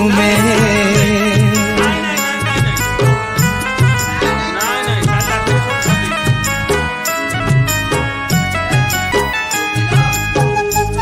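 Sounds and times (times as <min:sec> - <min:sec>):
devotional instrumental melody: 0:00.0 - 0:11.0.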